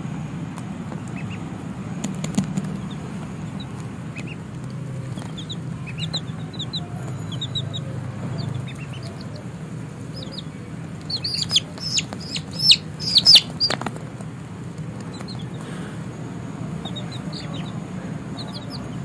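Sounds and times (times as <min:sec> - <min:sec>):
low steady hum: 0:00.0 - 0:19.0
chicks and ducklings peeping: 0:00.6 - 0:19.0.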